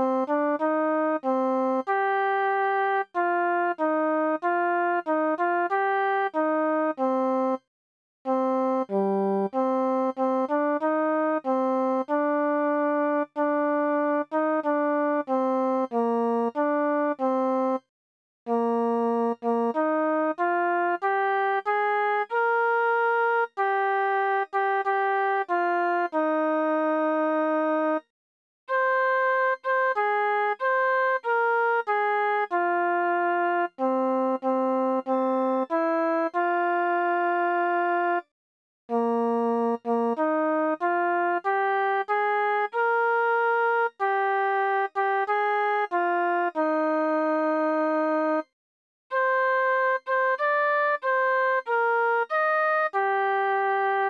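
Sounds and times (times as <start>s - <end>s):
synthesized hymn melody: 0.0s - 7.7s, 8.3s - 17.9s, 18.5s - 28.0s, 28.7s - 38.2s, 38.9s - 48.4s, 49.1s - 54.0s.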